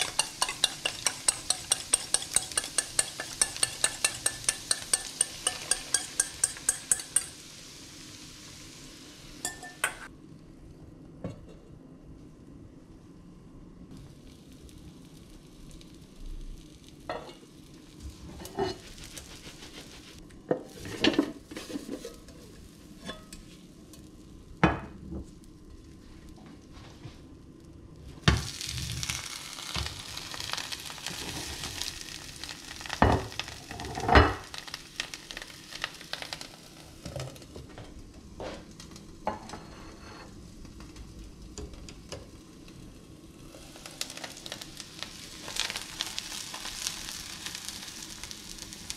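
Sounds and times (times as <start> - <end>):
omelette sizzling in a pan: 0.0 - 10.4, 13.9 - 48.9.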